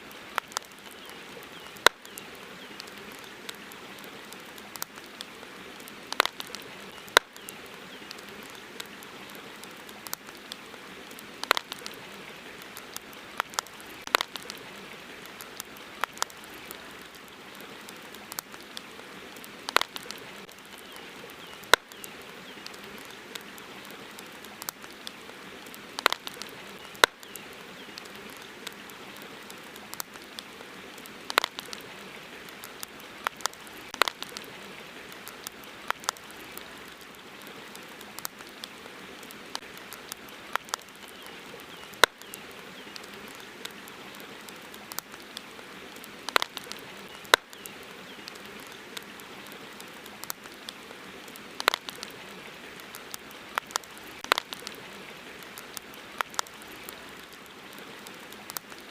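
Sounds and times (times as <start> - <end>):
campfire crackling and popping: 0.0 - 58.9
river water hissing: 0.0 - 58.9.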